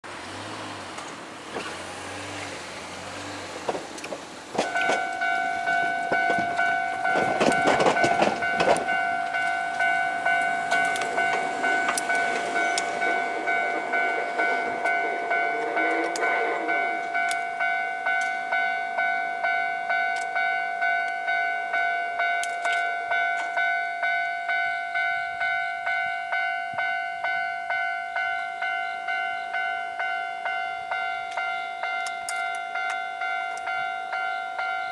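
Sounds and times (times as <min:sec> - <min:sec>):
train rail noise: 0:00.0 - 0:34.9
level crossing warning bell: 0:04.6 - 0:34.9.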